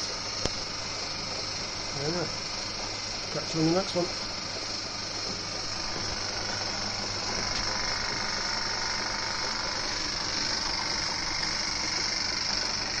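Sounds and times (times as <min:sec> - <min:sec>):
metal lathe whirring: 0:00.0 - 0:13.0.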